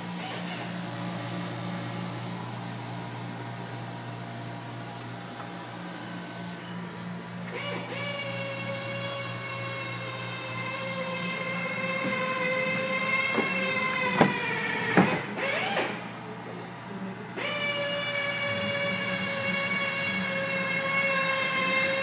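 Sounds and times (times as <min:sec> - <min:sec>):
higher motor whine: 0:00.0 - 0:22.0
low electric hum of machine: 0:00.0 - 0:22.0.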